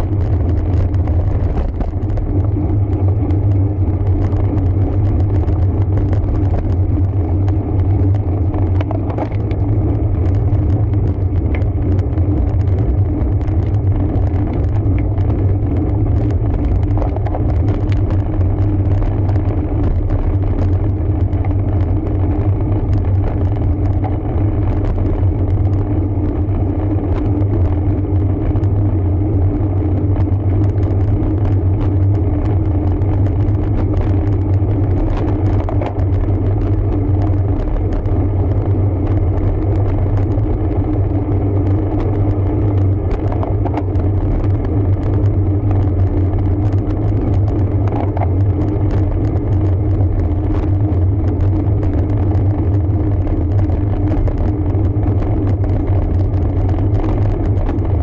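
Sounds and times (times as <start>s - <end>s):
road noise: 0.0s - 58.0s
wind rumble on microphone: 0.0s - 58.0s.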